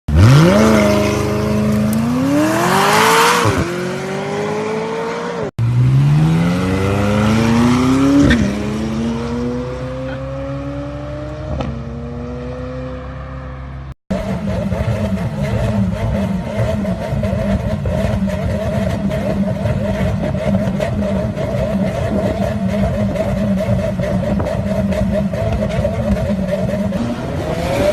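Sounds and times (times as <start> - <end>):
car engine accelerating hard: 0.1 - 27.9.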